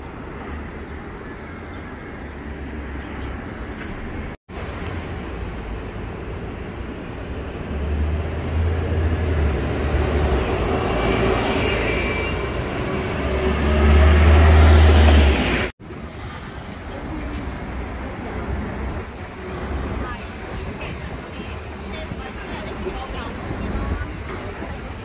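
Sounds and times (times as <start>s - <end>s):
vehicles passing with low rumble: 0.0s - 25.0s.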